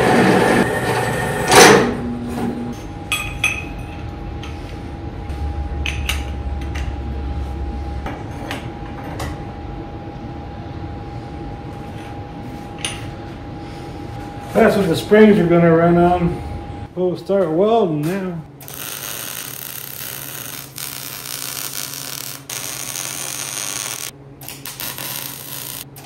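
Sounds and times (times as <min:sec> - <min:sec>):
steady shop hum: 0:00.0 - 0:26.0.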